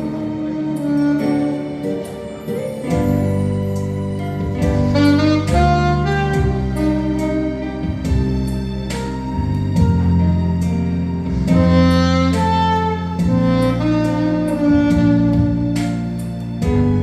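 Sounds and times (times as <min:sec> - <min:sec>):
accompaniment with steady beat: 0:00.0 - 0:17.0
saxophone melody: 0:00.0 - 0:17.0.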